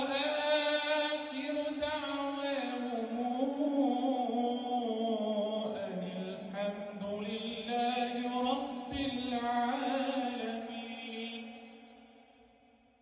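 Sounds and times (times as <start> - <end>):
man chanting into a microphone: 0.0 - 12.2.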